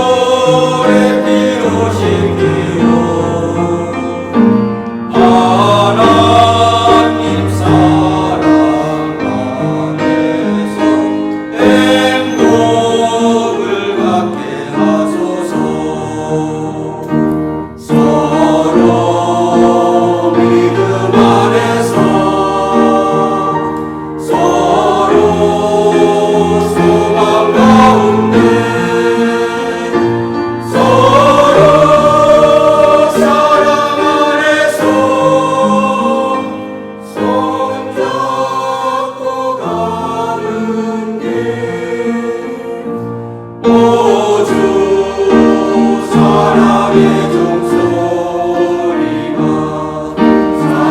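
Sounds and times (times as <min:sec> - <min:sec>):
choir singing a hymn: 0:00.0 - 0:50.9.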